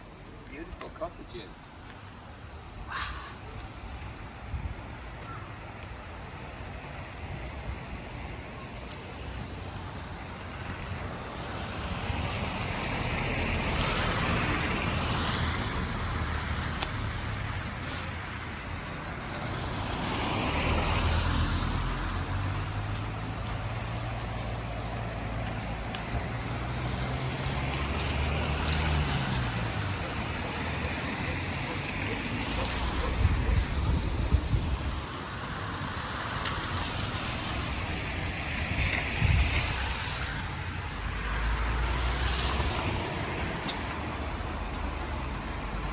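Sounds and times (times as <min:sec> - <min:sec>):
vehicles driving past: 0:00.0 - 0:45.9.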